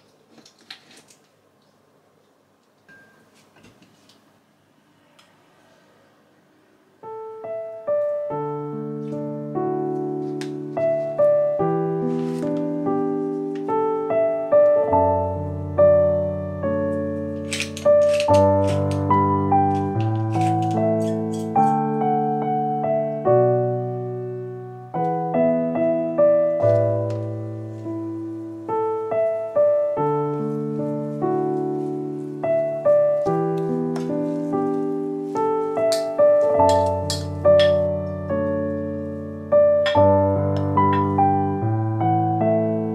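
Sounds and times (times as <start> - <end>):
piano music: 7.0 - 42.9.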